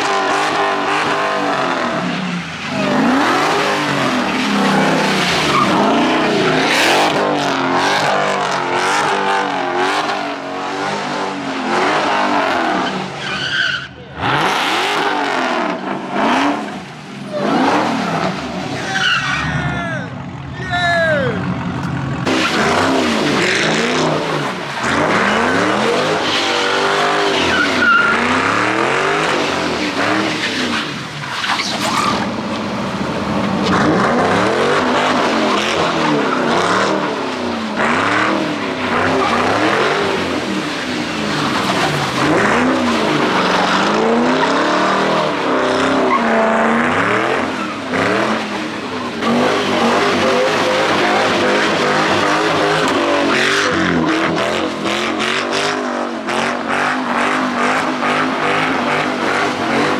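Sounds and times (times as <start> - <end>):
tyres skidding on wet pavement: 0.0 - 20.4, 21.4 - 59.9
car engine revving: 0.0 - 59.9.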